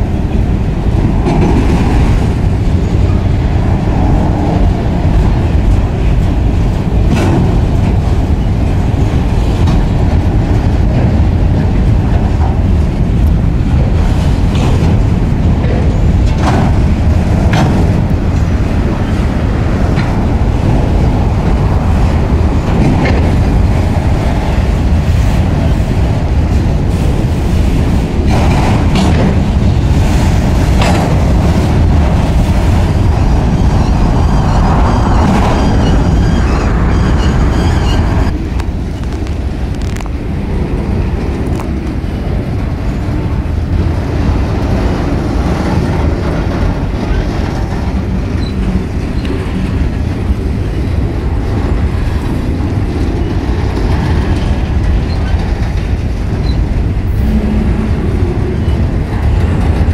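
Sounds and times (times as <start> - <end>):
train cars clanking: 0.0 - 59.9
train wheels rumbling on rails: 0.0 - 59.9.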